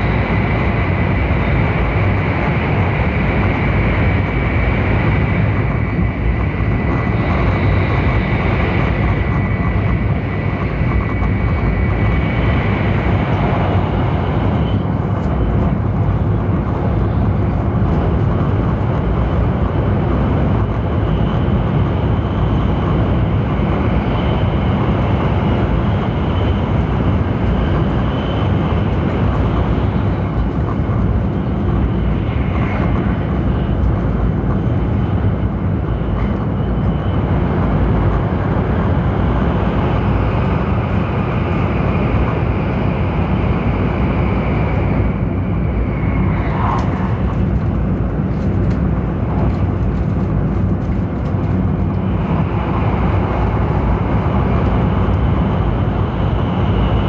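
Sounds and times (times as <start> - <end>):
train wheels and air rumbling: 0.0 - 57.0.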